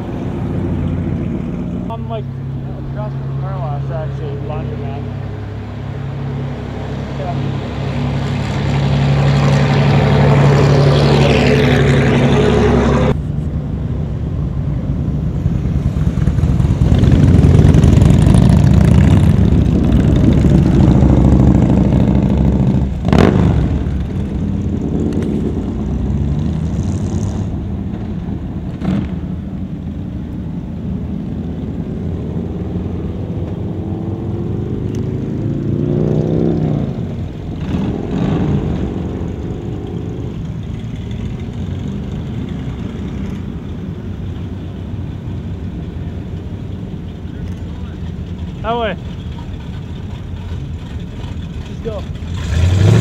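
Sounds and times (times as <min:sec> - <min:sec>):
vehicle engines driving past: 0:00.0 - 0:53.0.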